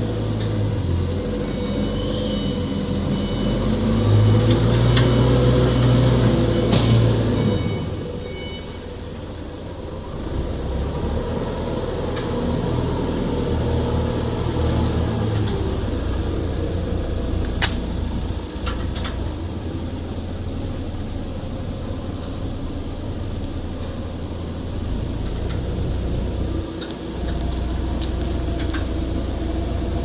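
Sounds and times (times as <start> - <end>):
low machinery hum: 0.0 - 30.0.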